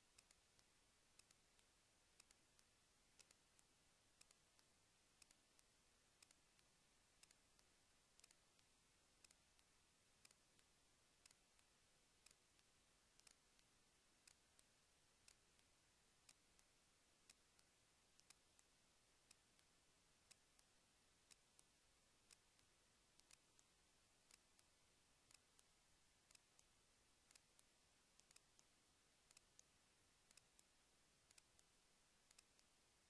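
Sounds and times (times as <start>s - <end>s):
faint sharp clicks: 0.0s - 33.0s.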